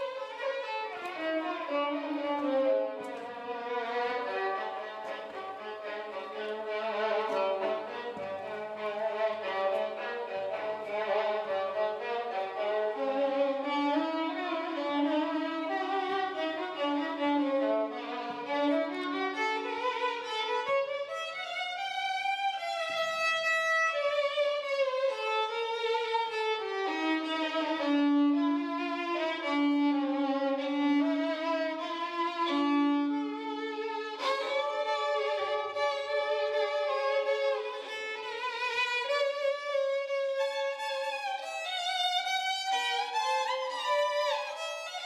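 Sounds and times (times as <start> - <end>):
violin melody: 0.0 - 45.0.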